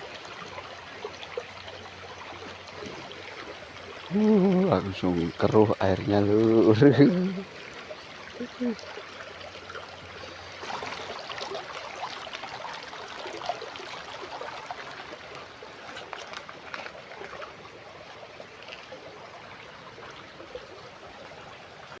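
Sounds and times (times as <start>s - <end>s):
river water flowing: 0.0s - 22.0s
water gurgles and splashes: 0.0s - 22.0s.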